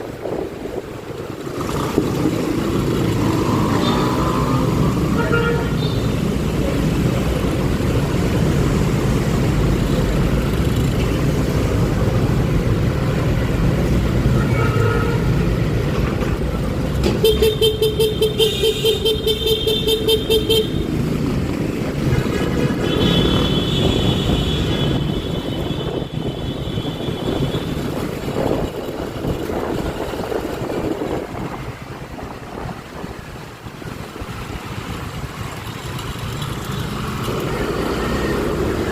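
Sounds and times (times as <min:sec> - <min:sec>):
scooter engine and road noise: 0:00.0 - 0:38.9.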